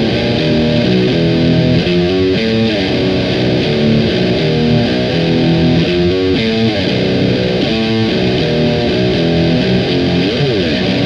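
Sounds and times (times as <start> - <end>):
distorted electric guitar: 0.0 - 11.0.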